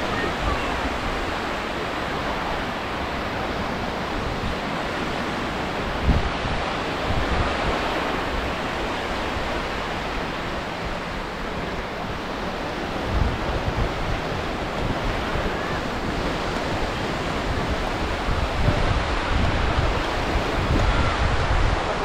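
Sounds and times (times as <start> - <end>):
sea waves washing onto shore: 0.0 - 22.0
wind buffeting microphone: 0.0 - 22.0.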